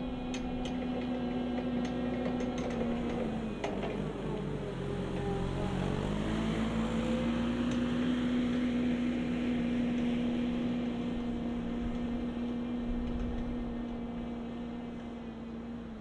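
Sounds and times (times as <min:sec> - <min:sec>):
forklift engine driving off: 0:00.0 - 0:15.6.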